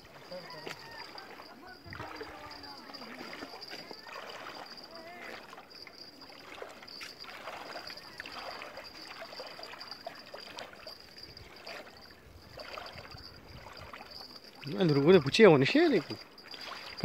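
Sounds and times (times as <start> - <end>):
water lapping around legs: 0.0 - 17.0.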